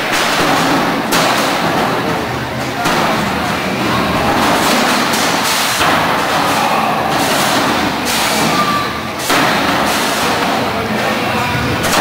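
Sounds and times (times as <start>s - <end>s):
sharp bangs of robots hitting: 0.0s - 2.2s, 2.8s - 10.7s.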